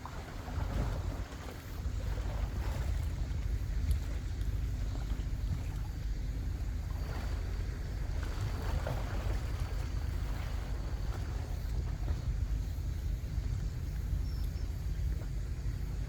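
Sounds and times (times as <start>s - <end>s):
faint sea wash: 0.0s - 16.0s.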